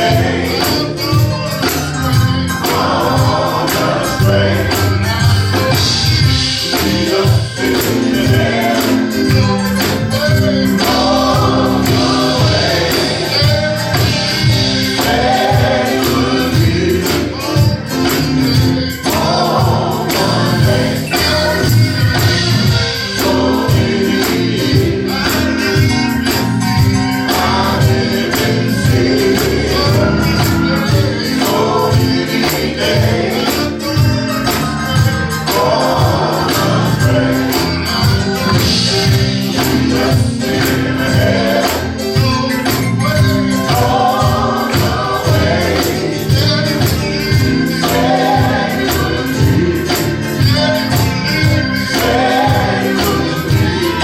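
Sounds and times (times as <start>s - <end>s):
choir singing over band: 0.0s - 54.0s
tambourine beating: 0.0s - 54.0s.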